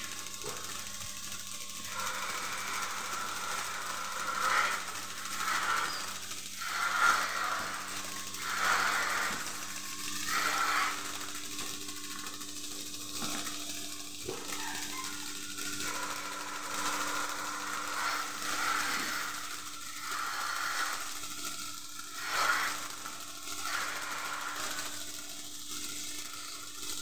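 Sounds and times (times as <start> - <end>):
pulsators clicking: 0.0 - 27.0
vacuum system hum: 0.0 - 27.0.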